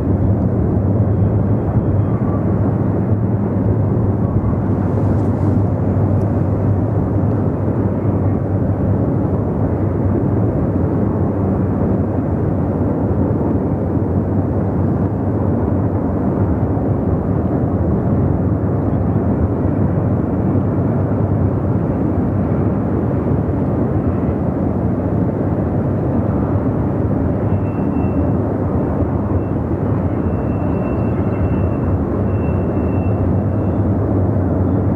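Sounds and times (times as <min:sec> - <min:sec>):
freight train rumbling: 0:00.0 - 0:34.9.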